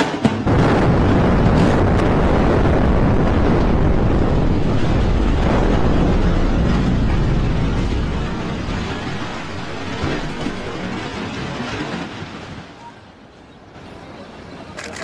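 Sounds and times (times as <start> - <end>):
blasting charges cracking: 0.0 - 12.5
building collapse rumble: 0.0 - 15.0.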